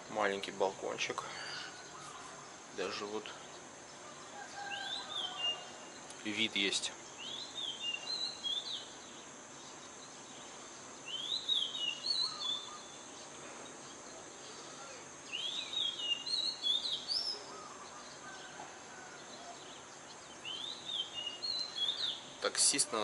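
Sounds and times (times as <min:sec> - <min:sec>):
steady background noise: 0:00.0 - 0:23.0
songbird warbling: 0:01.3 - 0:23.0.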